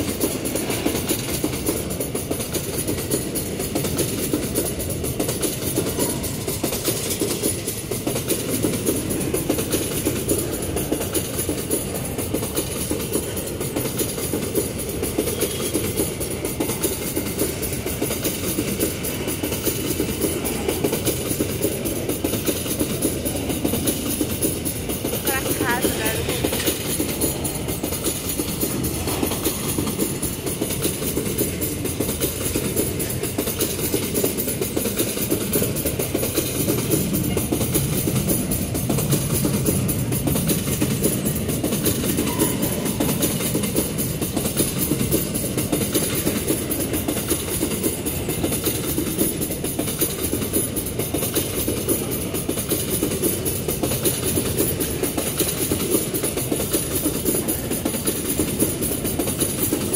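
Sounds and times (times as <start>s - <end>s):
steel wheels clattering on rails: 0.0s - 59.9s.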